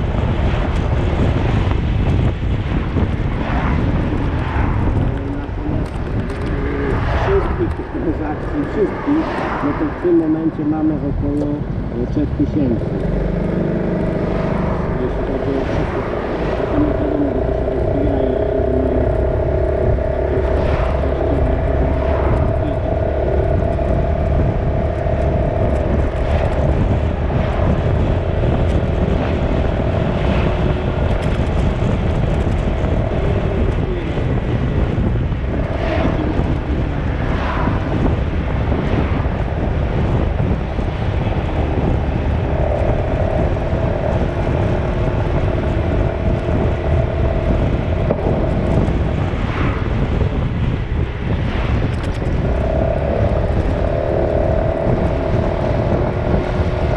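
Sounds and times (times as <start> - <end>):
road noise: 0.0 - 56.9
vehicle engine rumble: 0.0 - 56.9.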